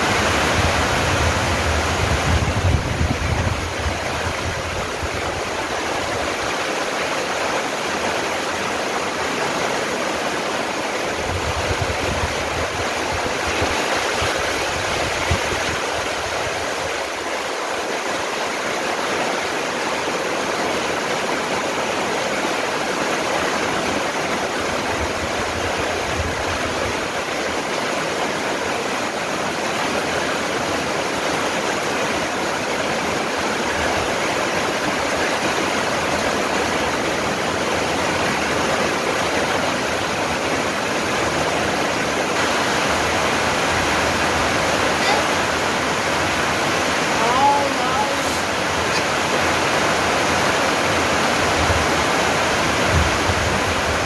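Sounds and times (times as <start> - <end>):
rain on foliage: 0.0 - 54.0.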